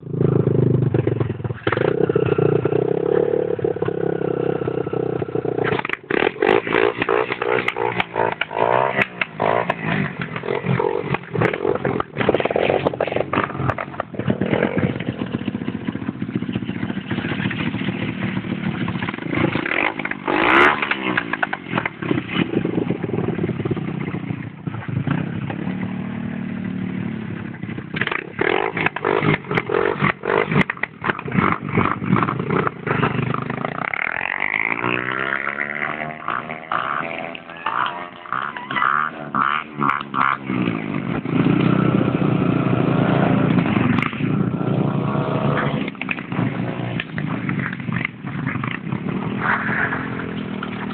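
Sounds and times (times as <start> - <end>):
motorbike engine revving: 0.0 - 50.9.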